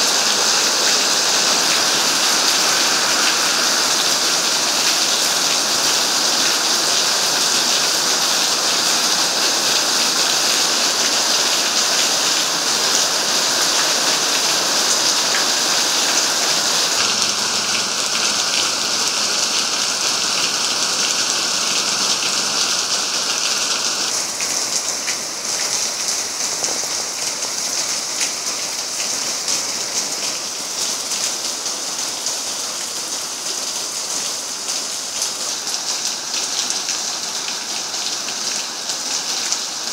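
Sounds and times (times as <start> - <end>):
heavy rain on paving and foliage: 0.0 - 39.9.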